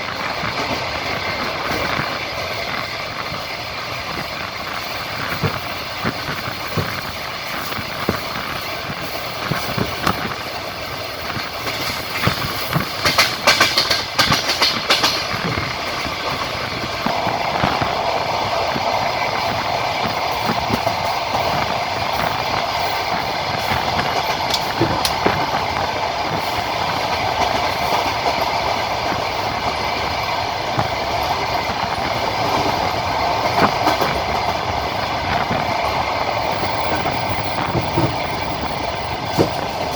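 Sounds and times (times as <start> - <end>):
passenger train running on track: 0.0 - 39.9
wheels clacking over rail joints: 0.0 - 39.9.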